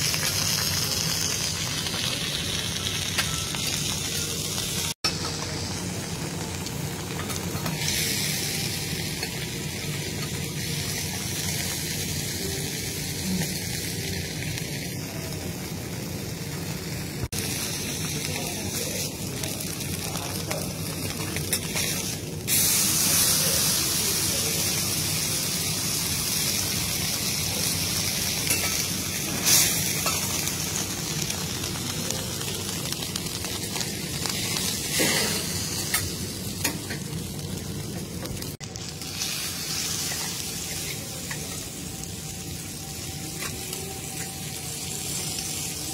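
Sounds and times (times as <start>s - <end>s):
steaks sizzling on a griddle: 0.0s - 45.9s.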